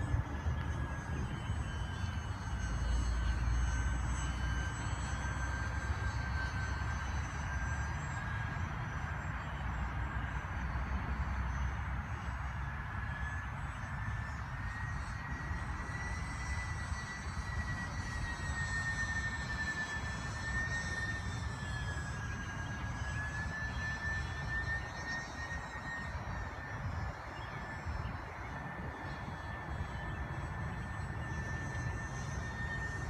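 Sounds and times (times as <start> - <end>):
model plane motors whining: 0.0 - 33.0.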